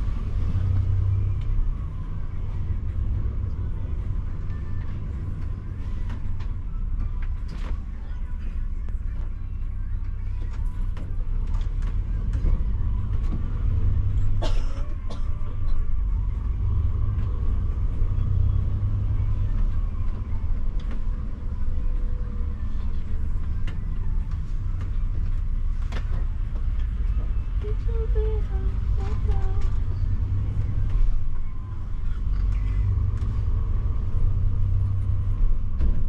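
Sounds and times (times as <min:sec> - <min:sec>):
coach engine rumbling: 0:00.0 - 0:36.0.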